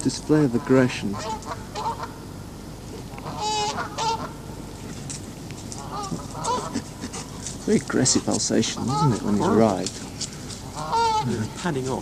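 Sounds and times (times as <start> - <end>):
geese honking: 0.3 - 2.3, 3.0 - 4.9, 5.7 - 12.0.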